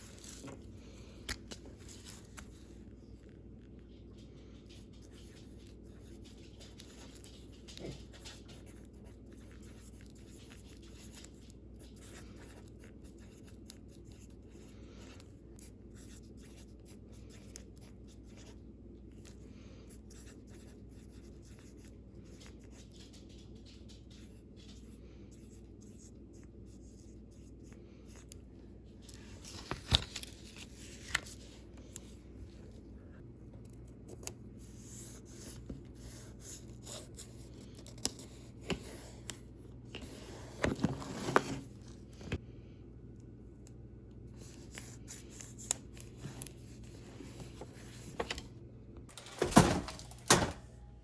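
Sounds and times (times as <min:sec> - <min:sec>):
low room hum: 0:00.0 - 0:51.0.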